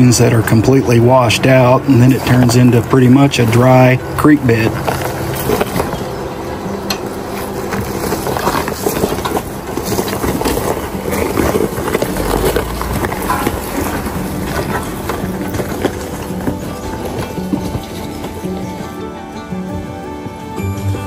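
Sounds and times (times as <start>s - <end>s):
tires crunching on stones: 0.0s - 21.0s
vehicle engine running: 0.0s - 21.0s.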